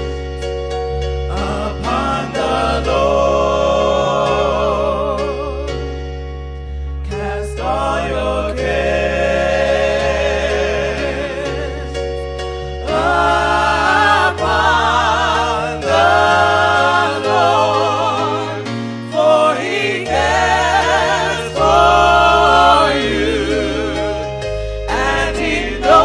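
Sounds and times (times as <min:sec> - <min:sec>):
steady bass line: 0:00.0 - 0:26.0
choir singing held notes: 0:01.3 - 0:05.8, 0:07.1 - 0:12.1, 0:12.7 - 0:26.0.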